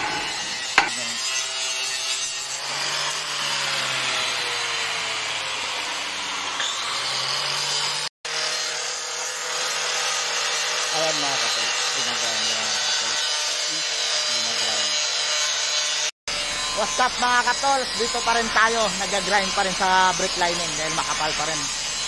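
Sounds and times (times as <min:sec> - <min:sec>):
angle grinder grinding: 0:00.0 - 0:22.0.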